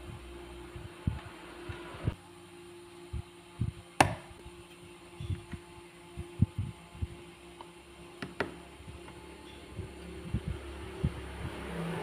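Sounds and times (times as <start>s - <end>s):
steady faint hum: 0.0s - 12.0s.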